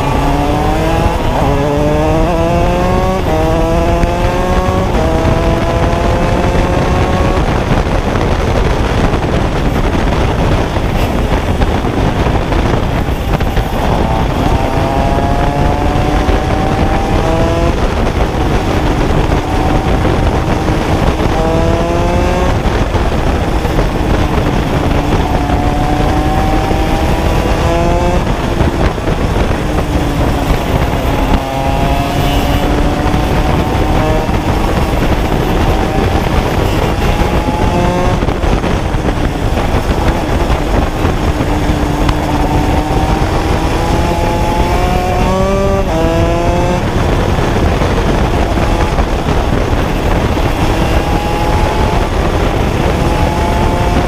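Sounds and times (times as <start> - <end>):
two-stroke kart engine accelerating: 0.0 - 54.0.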